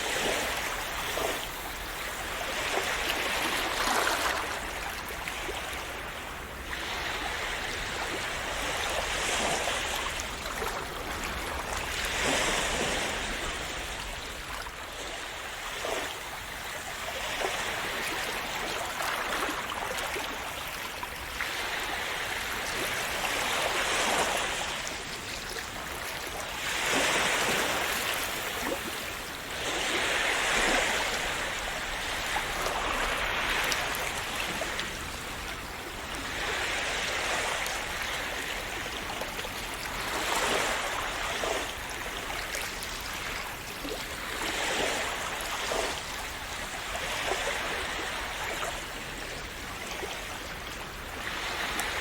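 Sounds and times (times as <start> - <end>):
sea waves washing in: 0.0 - 52.0.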